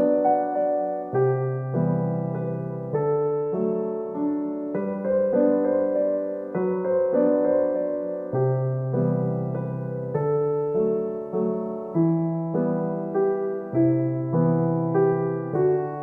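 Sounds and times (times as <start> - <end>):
gentle solo piano piece: 0.0 - 16.0.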